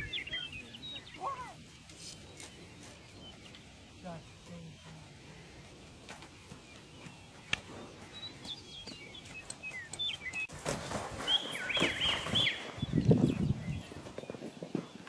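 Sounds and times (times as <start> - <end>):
small birds chirping: 0.0 - 10.6, 11.2 - 15.0.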